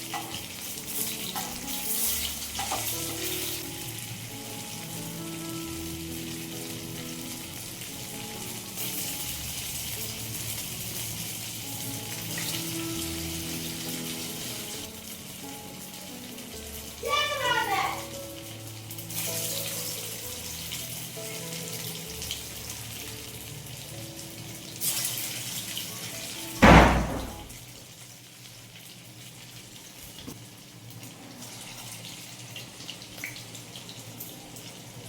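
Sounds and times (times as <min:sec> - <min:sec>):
soft background music: 0:00.0 - 0:30.1, 0:30.8 - 0:35.0
water running in a sink: 0:00.0 - 0:35.0.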